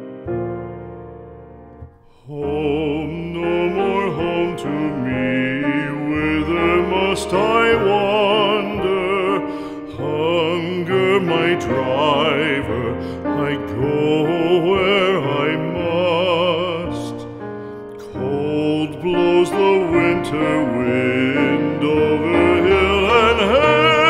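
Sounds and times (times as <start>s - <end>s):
piano chord: 0.0s - 24.0s
operatic vocal melody with vibrato: 2.0s - 24.0s.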